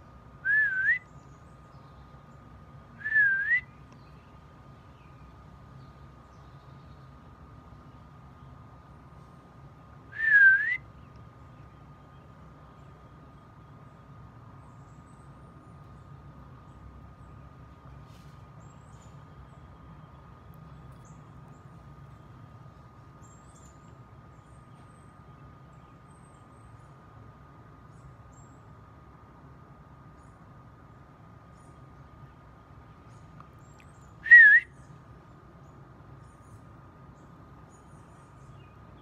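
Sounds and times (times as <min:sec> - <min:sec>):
bird chirp: 0:00.0 - 0:08.7, 0:10.2 - 0:27.1, 0:31.4 - 0:39.0
faint outdoor hum: 0:00.0 - 0:39.0.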